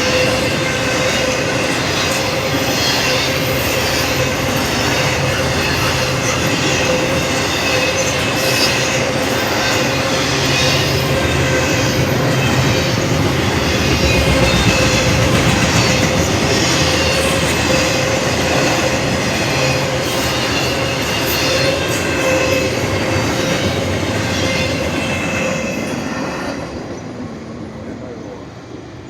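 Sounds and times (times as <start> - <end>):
train wheels rumbling on rails: 0.0 - 27.1.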